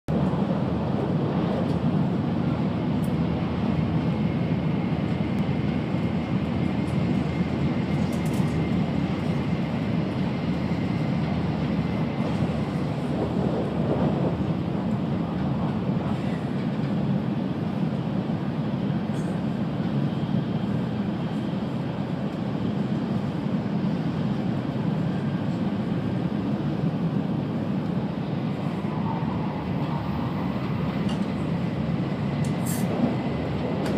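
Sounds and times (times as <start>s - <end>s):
train low rumble from inside: 0.1s - 33.9s.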